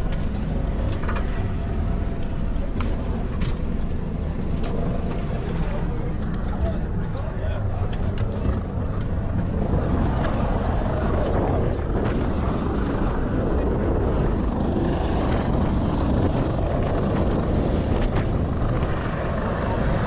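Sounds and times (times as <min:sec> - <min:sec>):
engine rumble: 0:00.0 - 0:20.0
wind noise on microphone: 0:00.0 - 0:20.0.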